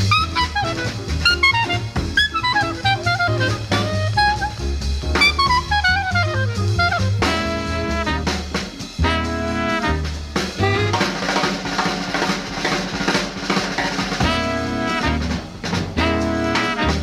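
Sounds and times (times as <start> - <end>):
horn section chords: 0.0 - 12.3, 13.6 - 17.0
drums playing snare and bass: 0.0 - 17.0.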